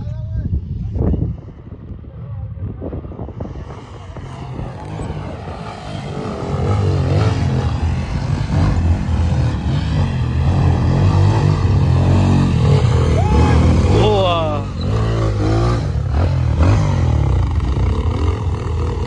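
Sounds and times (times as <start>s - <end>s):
motorcycle engines revving: 0.8s - 19.0s.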